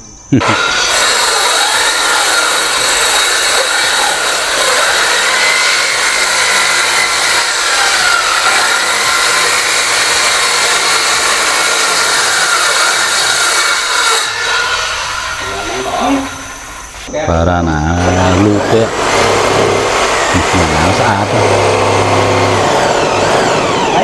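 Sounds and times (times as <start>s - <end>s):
circular saw cutting wood: 0.4s - 24.0s.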